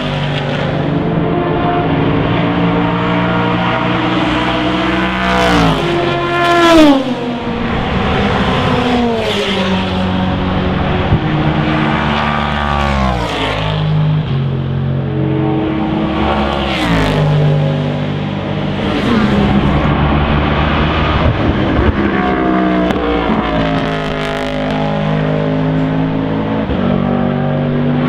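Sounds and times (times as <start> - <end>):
race cars passing at full speed: 0.0 - 28.0.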